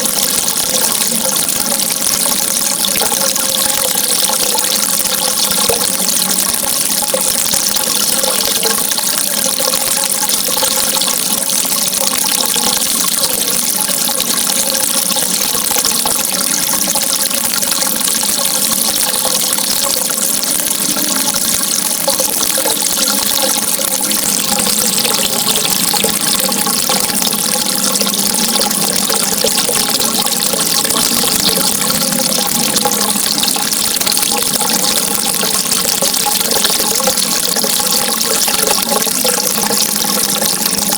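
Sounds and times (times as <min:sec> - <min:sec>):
faint steady tones: 0:00.0 - 0:40.9
flowing water rushing: 0:00.0 - 0:40.9.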